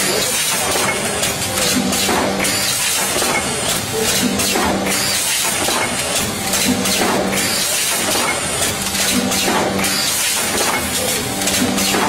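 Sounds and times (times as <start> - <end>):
machine clatter: 0.0 - 12.0.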